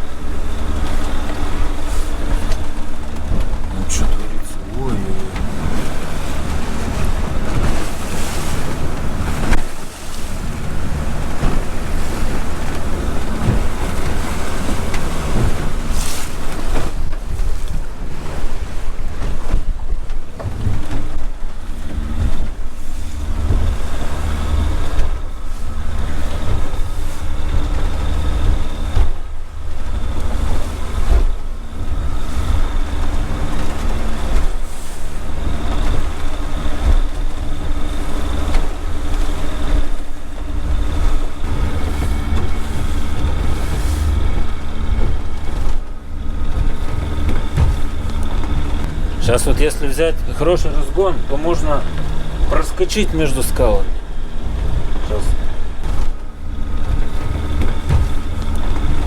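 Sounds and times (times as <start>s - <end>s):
boat engine running: 0.0s - 59.0s
water slapping against hull: 0.0s - 59.0s
wind buffeting microphone: 0.0s - 59.0s.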